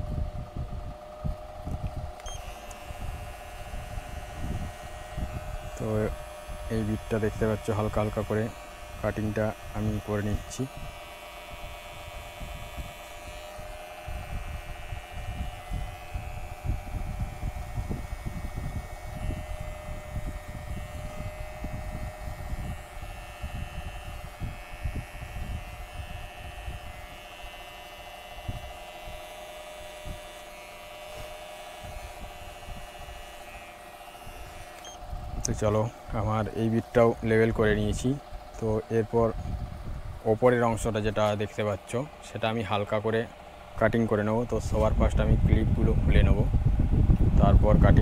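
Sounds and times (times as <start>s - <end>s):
electric hair clipper humming: 0.0s - 48.0s.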